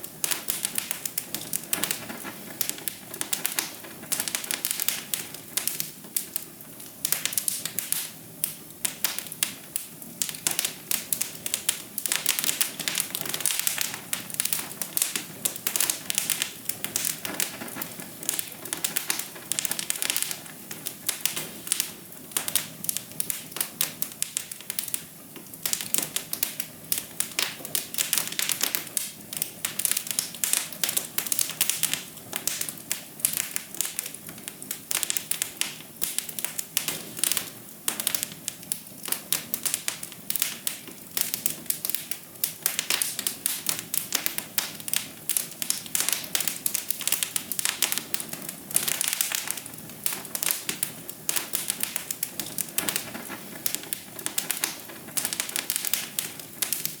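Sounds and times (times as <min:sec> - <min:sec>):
soft fire hiss: 0:00.0 - 0:57.0
wood fire crackling: 0:00.0 - 0:57.0.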